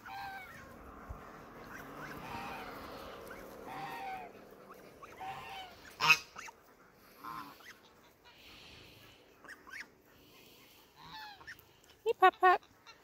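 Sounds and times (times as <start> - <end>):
geese honking: 0.0 - 11.7.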